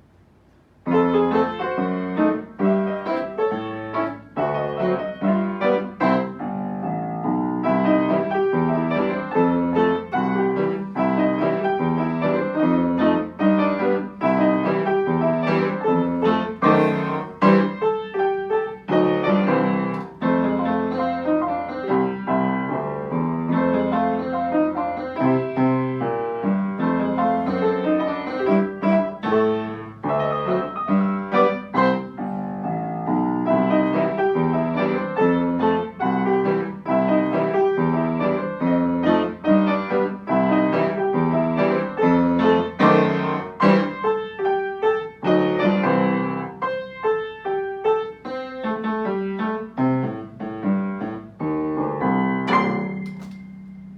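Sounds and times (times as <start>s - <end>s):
ragtime piano: 0.8s - 53.9s.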